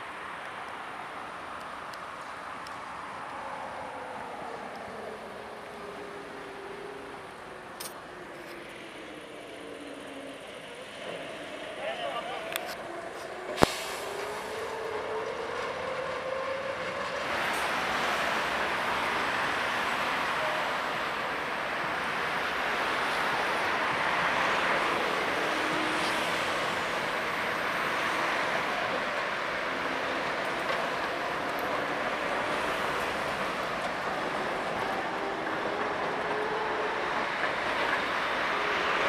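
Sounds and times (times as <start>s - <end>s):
city traffic: 0.0s - 39.0s
tram running on tracks: 0.0s - 39.0s.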